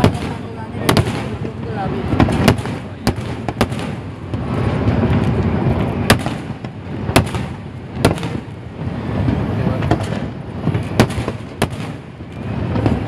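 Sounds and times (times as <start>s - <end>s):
fireworks bangs: 0.0s - 13.0s
low rumble of fireworks: 0.0s - 13.0s.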